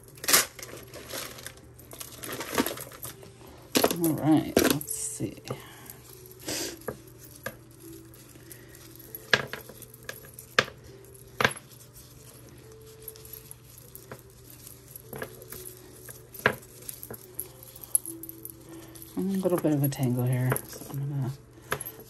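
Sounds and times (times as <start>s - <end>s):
metal jewelry clinking: 0.0s - 22.0s.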